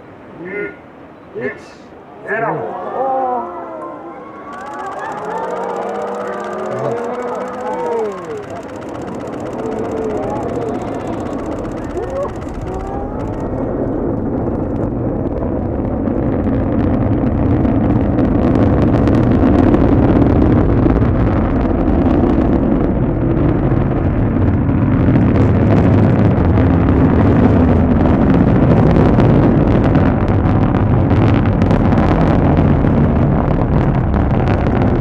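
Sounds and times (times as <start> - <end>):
distant rocket engine roar: 0.0 - 35.0.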